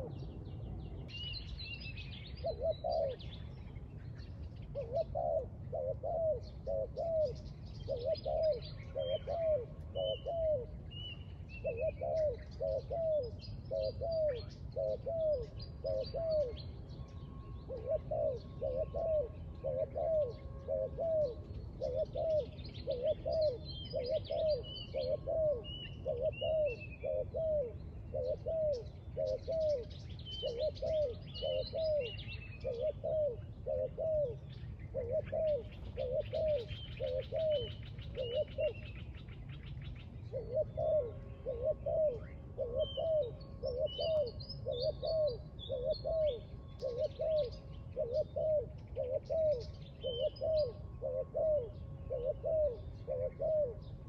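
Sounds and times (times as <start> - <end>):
doves cooing: 0.0 - 1.5, 2.3 - 54.0
small birds chirping: 0.0 - 54.0.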